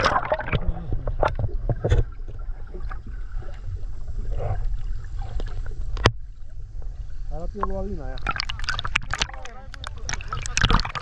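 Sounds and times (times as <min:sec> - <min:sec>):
muffled underwater rumble: 0:00.0 - 0:11.0
water gurgling: 0:00.0 - 0:11.0.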